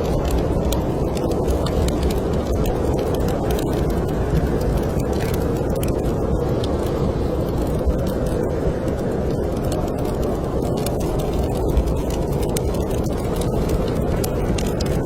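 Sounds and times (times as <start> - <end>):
snowstorm wind roaring: 0.0 - 15.0
wood fire crackling: 0.0 - 15.0.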